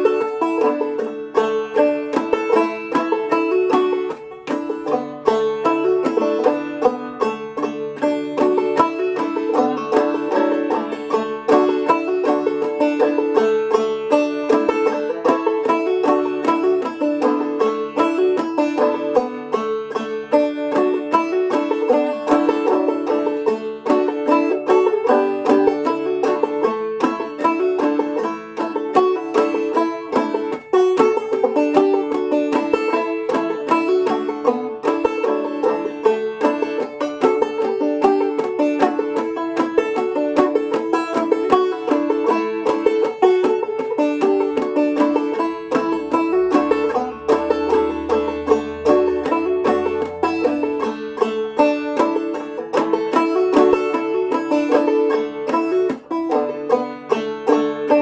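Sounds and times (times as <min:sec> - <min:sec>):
banjo plucked melody: 0:00.0 - 0:58.0.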